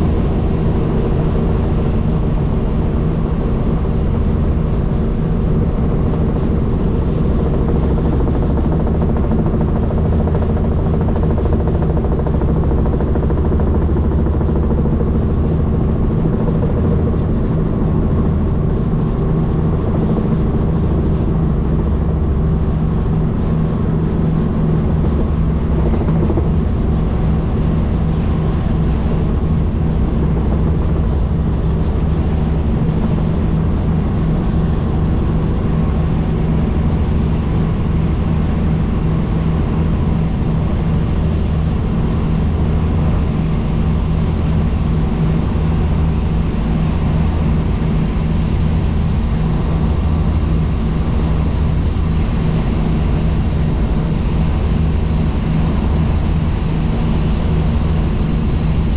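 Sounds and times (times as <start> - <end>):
helicopter rotor and engine: 0.0 - 58.9.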